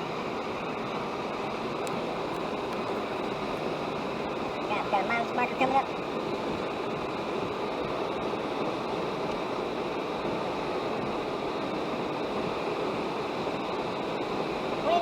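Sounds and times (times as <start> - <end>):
road noise inside vehicle: 0.0 - 15.0
wind noise: 0.0 - 15.0.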